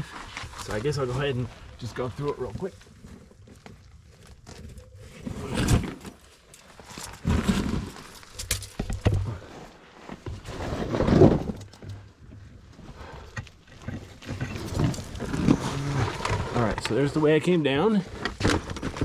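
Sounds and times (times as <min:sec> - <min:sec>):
footsteps on rough rock: 0:00.0 - 0:17.4.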